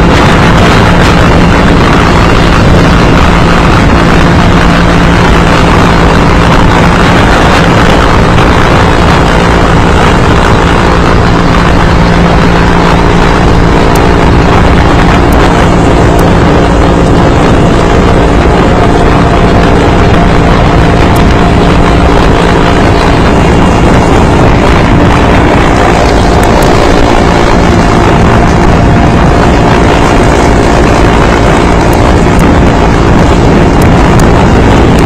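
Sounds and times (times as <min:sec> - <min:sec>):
aircraft engine and air rush: 0:00.0 - 0:35.0
low steady hums: 0:00.0 - 0:35.0.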